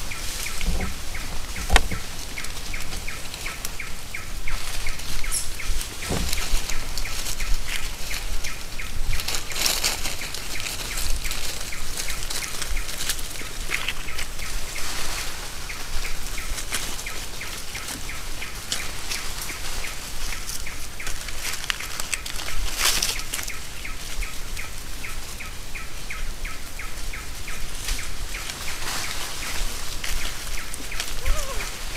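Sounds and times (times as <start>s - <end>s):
monkeys rustling in leaf litter: 0.0s - 31.9s.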